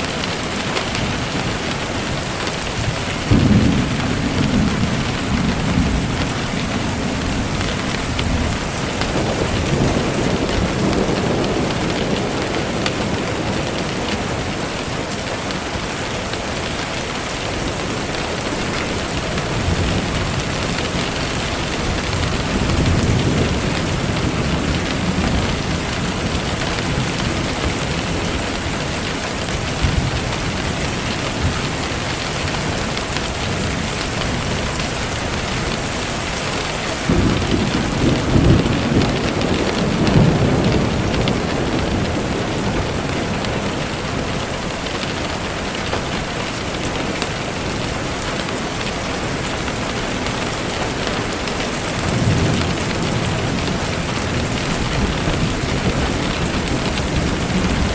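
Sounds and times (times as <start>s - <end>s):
steady rain falling: 0.0s - 57.9s
thunder rumbling: 0.0s - 57.9s.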